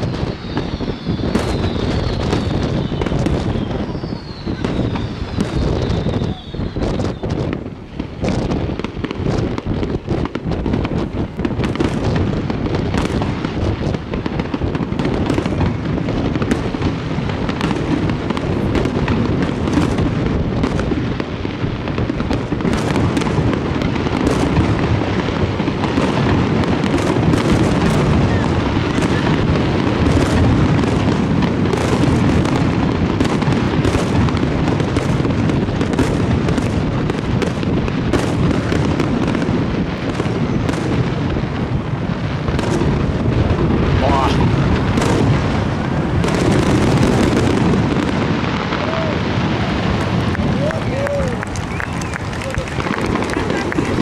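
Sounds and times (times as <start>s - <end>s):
firework bangs: 0.0s - 54.0s
fireworks crackle and rumble: 0.0s - 54.0s.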